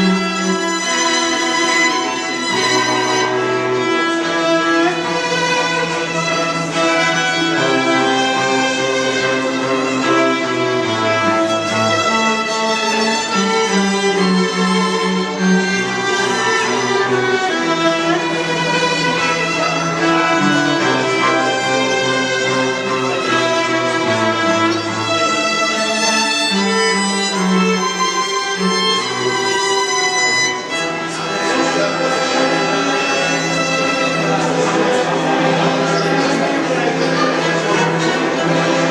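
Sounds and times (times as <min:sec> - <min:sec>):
cello bass line: 0:00.0 - 0:38.9
violins playing melody: 0:00.0 - 0:38.9.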